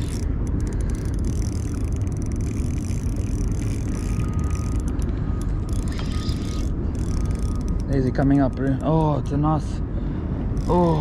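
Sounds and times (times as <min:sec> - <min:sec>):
fishing reel whirring: 0:00.0 - 0:09.8, 0:10.5 - 0:11.0.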